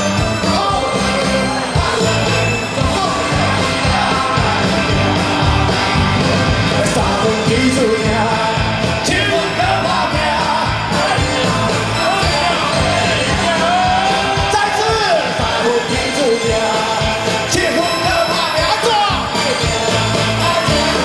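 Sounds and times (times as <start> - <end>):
electric guitar: 0.0 - 21.0
man singing: 0.0 - 21.0
rock band playing: 0.0 - 21.0.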